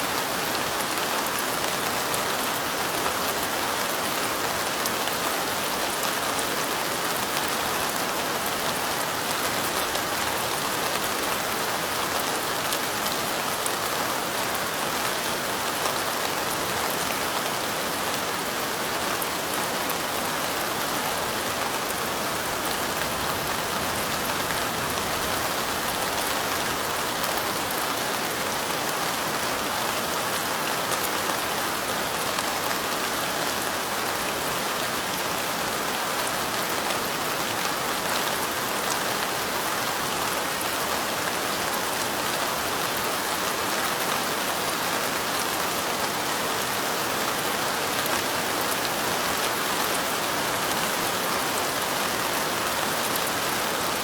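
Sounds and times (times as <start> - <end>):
light rain: 0.0 - 54.0.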